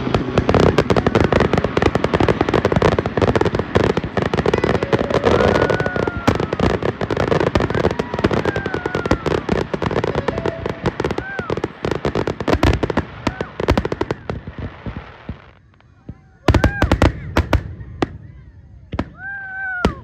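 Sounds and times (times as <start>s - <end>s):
fireworks bangs and crackles: 0.0s - 20.0s
fireworks whistling: 0.0s - 20.0s.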